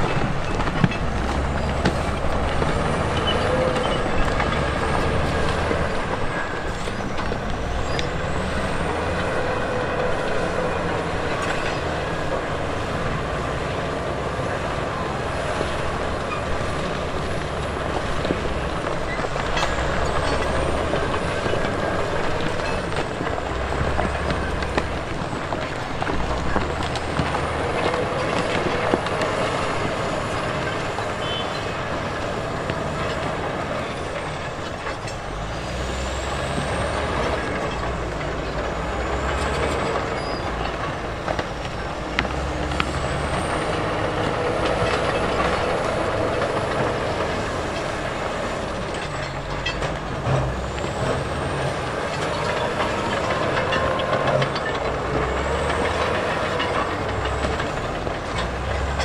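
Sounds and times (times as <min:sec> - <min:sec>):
diesel machinery engine: 0:00.0 - 0:59.0.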